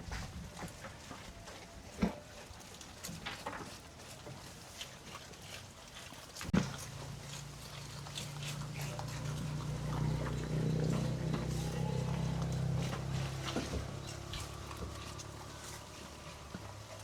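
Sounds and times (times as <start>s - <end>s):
farm animals feeding: 0.0s - 17.0s.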